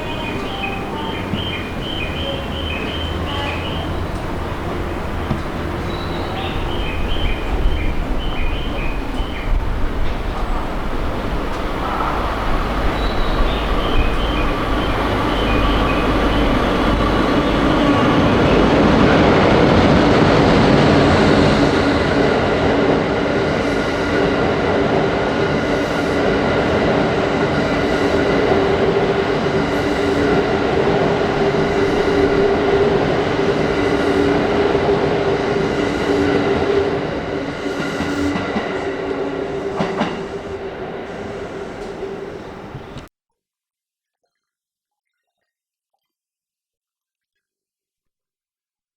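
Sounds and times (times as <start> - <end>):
train running on rails: 0.0 - 43.1.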